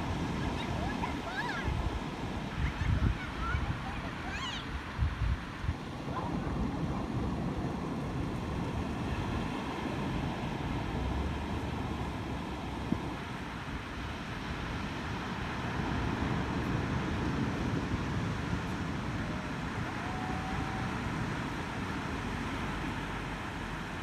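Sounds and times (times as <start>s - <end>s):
surf washing on beach: 0.0s - 24.0s
wind buffeting microphone: 0.0s - 24.0s.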